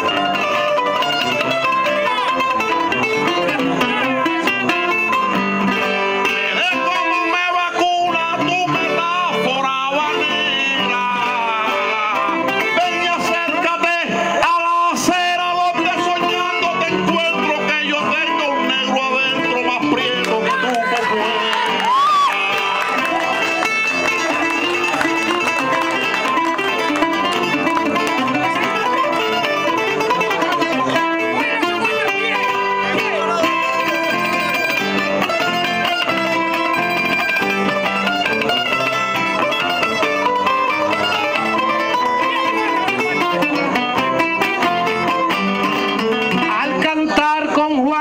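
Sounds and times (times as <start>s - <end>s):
plucked-string band playing: 0.0s - 14.3s, 15.0s - 47.5s.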